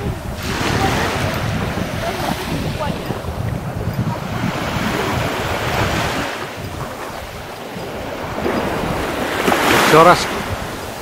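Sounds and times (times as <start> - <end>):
surf on pebble beach: 0.0 - 11.0
wind buffeting microphone: 0.0 - 11.0.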